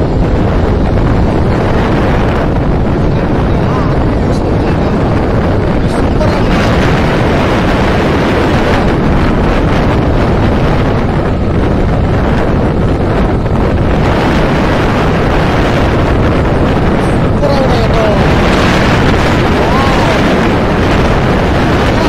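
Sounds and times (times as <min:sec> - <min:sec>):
motorcycle engine running: 0:00.0 - 0:22.0
wind rush over microphone: 0:00.0 - 0:22.0.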